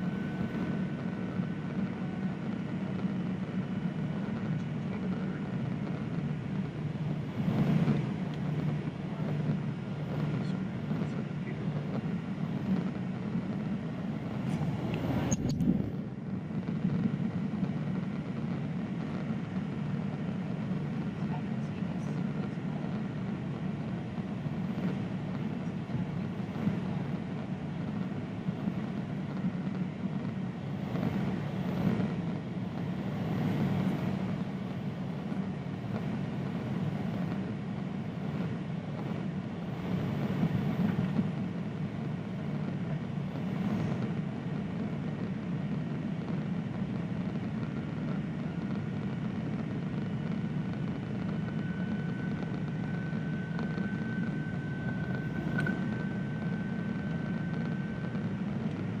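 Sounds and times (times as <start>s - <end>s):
faint high whine: 0.0s - 59.0s
jet cabin engine drone: 0.0s - 59.0s.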